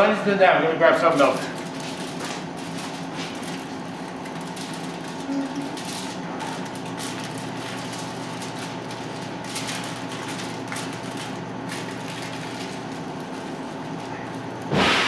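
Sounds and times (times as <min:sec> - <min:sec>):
steady mechanical hum: 0:00.0 - 0:15.0
aluminium foil crinkling: 0:00.9 - 0:14.7.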